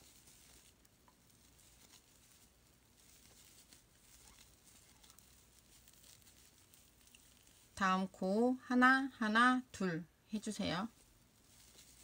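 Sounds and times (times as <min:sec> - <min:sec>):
crochet hook rustling and ticking: 0:00.0 - 0:08.2, 0:10.6 - 0:12.0.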